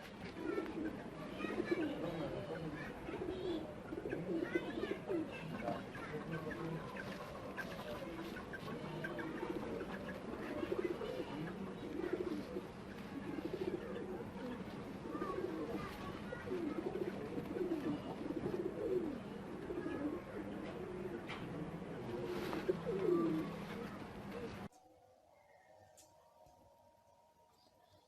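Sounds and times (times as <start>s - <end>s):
pigeons cooing: 0.0s - 24.7s.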